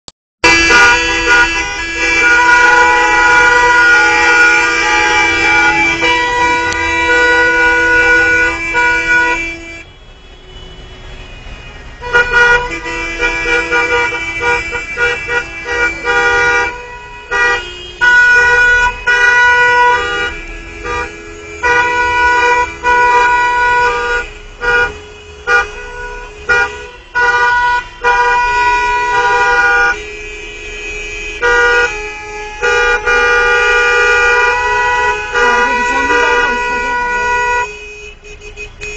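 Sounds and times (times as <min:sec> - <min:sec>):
car horns honking: 0:00.4 - 0:38.9.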